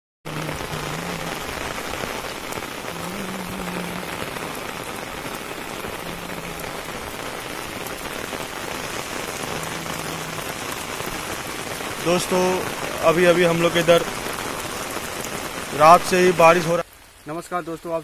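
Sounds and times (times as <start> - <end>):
steady rain on concrete: 0.2 - 18.0.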